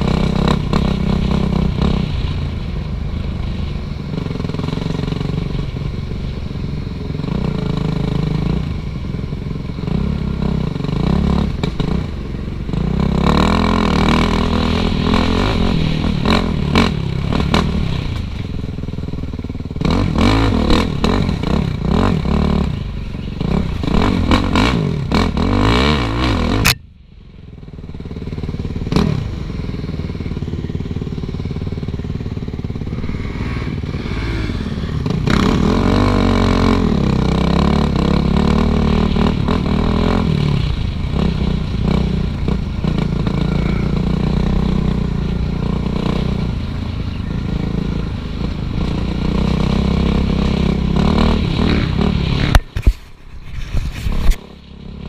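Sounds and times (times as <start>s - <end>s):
dirt bike engine revving: 0.0s - 2.6s, 7.0s - 18.4s, 19.1s - 26.8s, 27.8s - 52.9s.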